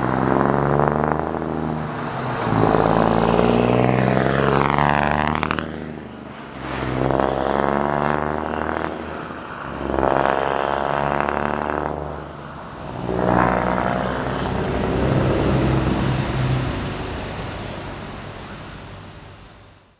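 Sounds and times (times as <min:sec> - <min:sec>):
diesel truck accelerating hard: 0:00.0 - 0:19.9.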